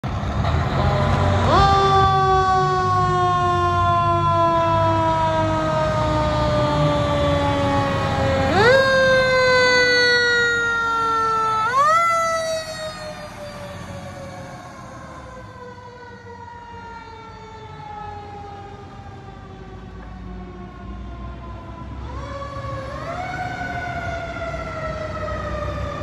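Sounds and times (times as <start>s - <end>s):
truck engine rumble: 0.0s - 26.0s
siren sweeping up and down: 0.6s - 26.0s.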